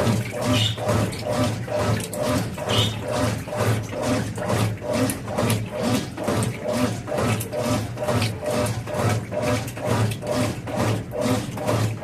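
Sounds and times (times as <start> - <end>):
washing machine agitator humming: 0.0 - 12.0
water sloshing: 0.0 - 12.0.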